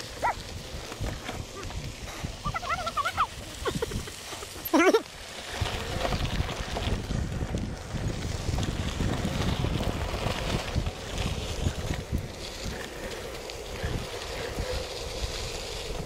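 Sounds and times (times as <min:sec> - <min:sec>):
wind buffeting microphone: 0:00.0 - 0:04.3, 0:05.4 - 0:16.0
tyres rolling over gravel: 0:00.0 - 0:16.0.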